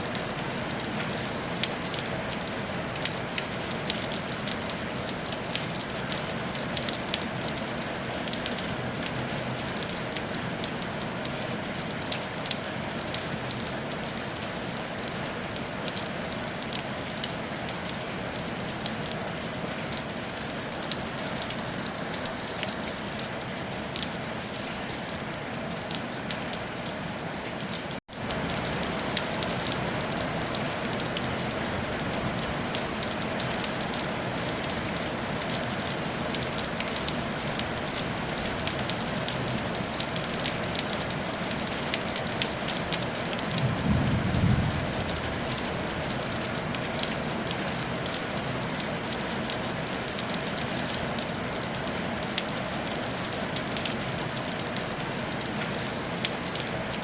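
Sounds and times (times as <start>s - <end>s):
rain on a tile roof: 0.0s - 57.0s.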